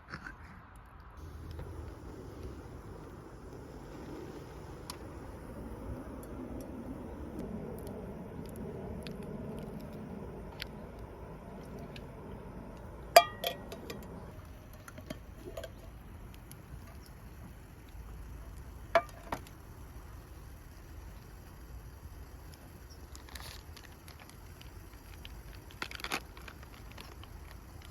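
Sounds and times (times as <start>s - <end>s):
low steady background: 0.0s - 27.9s.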